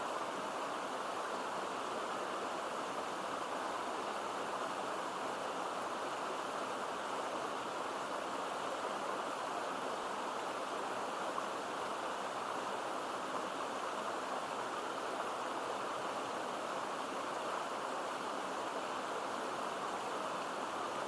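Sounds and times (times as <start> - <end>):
stream babbling into a pool: 0.0 - 21.0.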